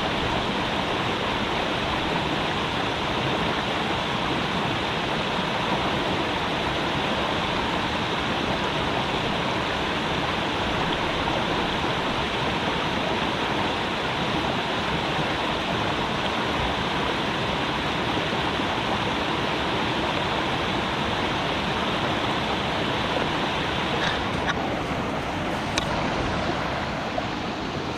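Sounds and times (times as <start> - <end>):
creek water flowing: 0.0 - 27.9.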